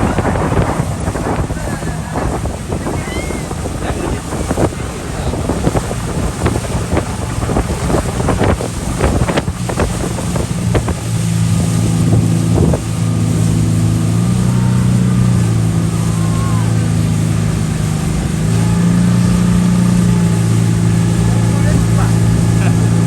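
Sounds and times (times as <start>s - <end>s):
motorboat engine: 0.0s - 23.0s
wind buffeting microphone: 0.0s - 23.0s.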